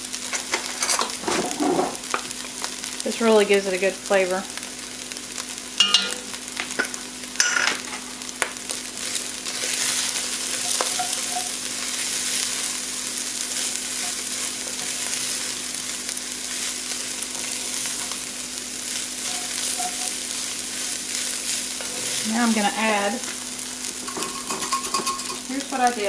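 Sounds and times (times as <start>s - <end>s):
meat sizzling in a frying pan: 0.0s - 26.0s.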